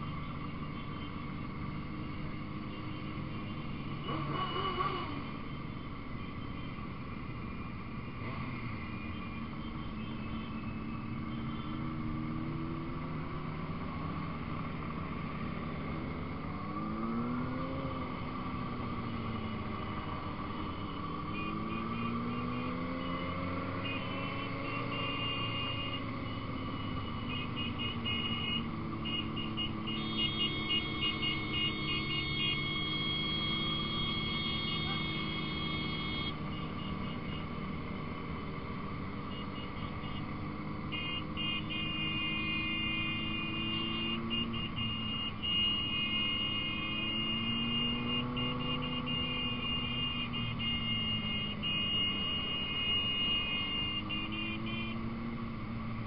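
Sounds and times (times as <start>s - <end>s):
road and wind noise: 0.0s - 56.0s
motorcycle engine revving: 3.9s - 5.3s, 11.2s - 56.0s.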